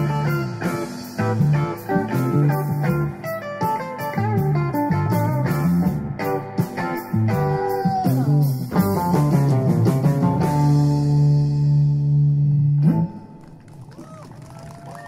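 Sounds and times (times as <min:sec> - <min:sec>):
electric guitar rock riff: 0:00.0 - 0:13.6
bass guitar: 0:00.0 - 0:13.8.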